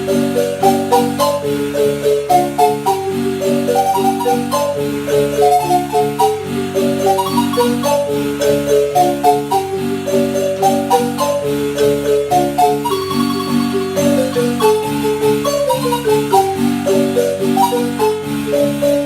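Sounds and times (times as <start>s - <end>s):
marimba playing a tune: 0.1s - 19.0s.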